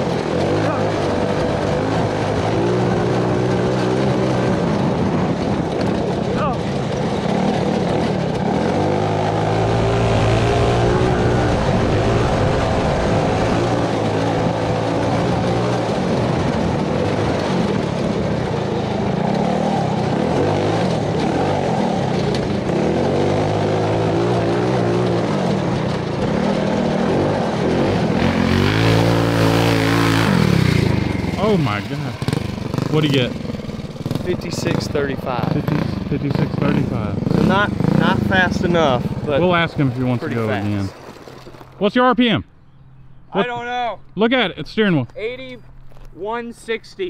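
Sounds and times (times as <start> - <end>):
go-kart engine droning: 0.0 - 41.8
wind noise: 0.0 - 41.8
rough ground noise: 0.0 - 47.0.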